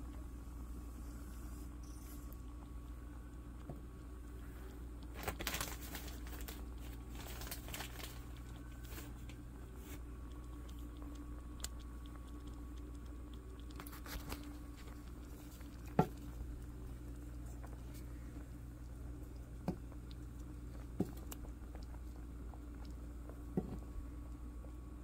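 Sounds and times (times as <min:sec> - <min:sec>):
steady low hum: 0:00.0 - 0:25.0
stew bubbling and crackling: 0:01.7 - 0:25.0.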